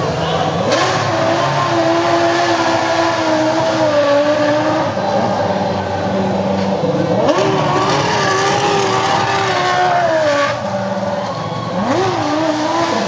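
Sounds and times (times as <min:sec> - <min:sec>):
racing car engine revving: 0:00.0 - 0:13.0.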